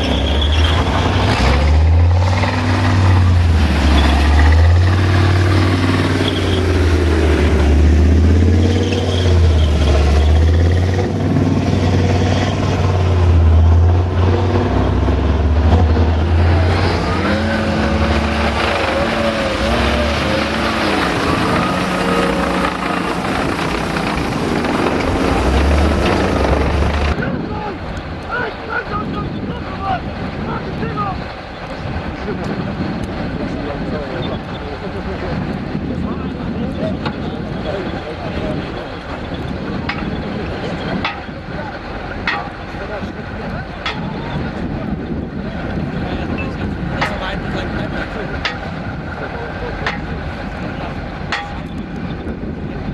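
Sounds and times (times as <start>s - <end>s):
heavy vehicle engine rumbling: 0.0s - 52.9s.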